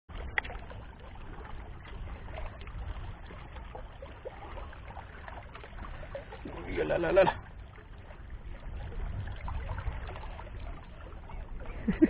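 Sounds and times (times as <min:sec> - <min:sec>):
low wind rumble on microphone: 0:00.1 - 0:12.0
small water splashes: 0:00.1 - 0:12.0
trickling water: 0:00.1 - 0:12.0.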